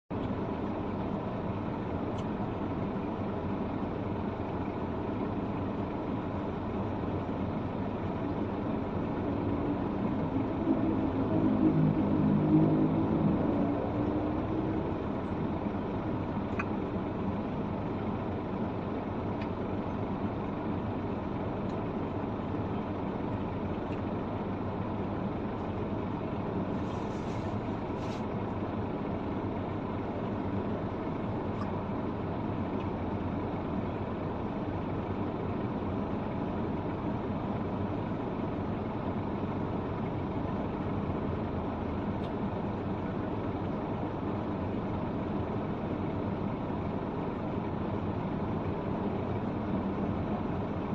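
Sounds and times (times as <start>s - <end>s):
road noise: 0.1s - 50.9s
truck engine running: 0.1s - 50.9s.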